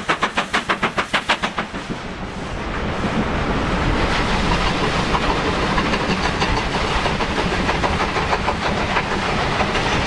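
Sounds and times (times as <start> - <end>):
steam train rumbling past: 0.0 - 10.0.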